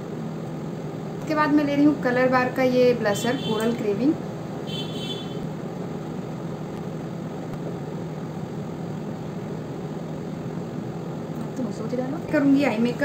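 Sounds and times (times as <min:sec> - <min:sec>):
low machine hum with hiss: 0:00.0 - 0:13.0.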